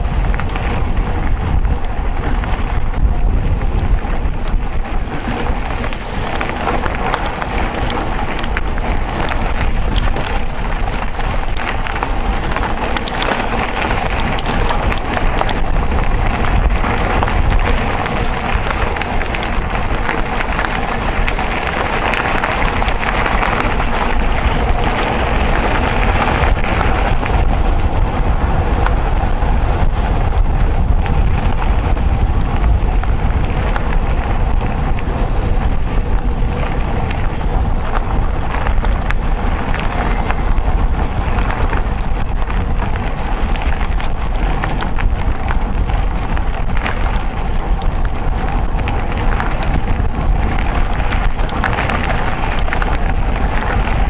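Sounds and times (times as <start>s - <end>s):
bike rattles and knocks: 0.0s - 54.0s
bike tyre noise: 0.0s - 54.0s
wind rumbling on microphone: 0.0s - 54.0s.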